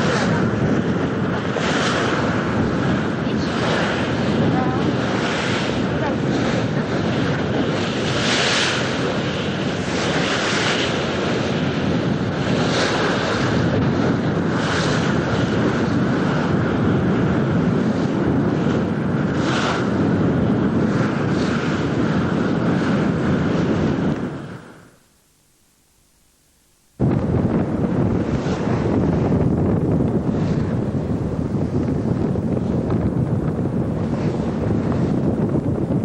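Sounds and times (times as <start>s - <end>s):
wind buffeting microphone: 0.0s - 25.0s, 27.0s - 36.0s
rush of wind: 0.0s - 36.0s.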